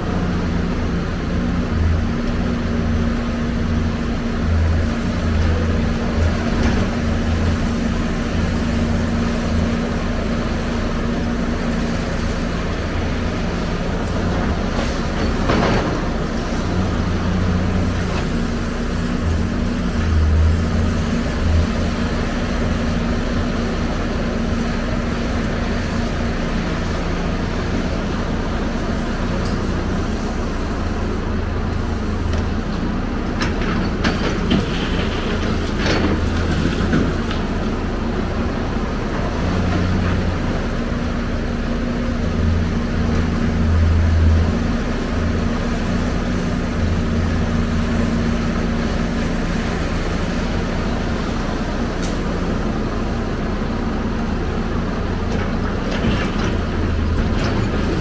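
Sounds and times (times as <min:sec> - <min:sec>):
excavator diesel engine droning: 0:00.0 - 0:58.0.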